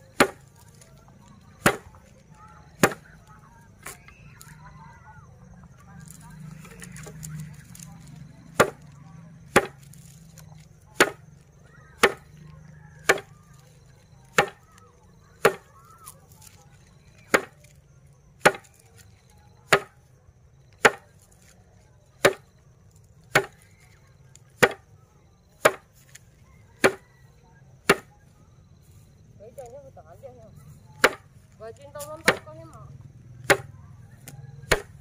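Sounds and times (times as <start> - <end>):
grass stalks slapped on wood: 0.0 - 4.7, 5.8 - 17.8, 18.4 - 20.0, 20.7 - 25.0, 25.6 - 27.0, 27.8 - 28.2, 28.9 - 32.8, 33.4 - 35.0.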